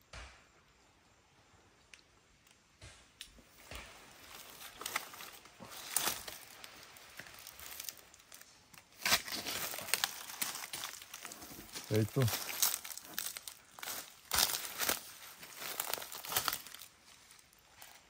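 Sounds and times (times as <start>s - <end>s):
hammock fabric and cord rustling: 3.3s - 18.0s.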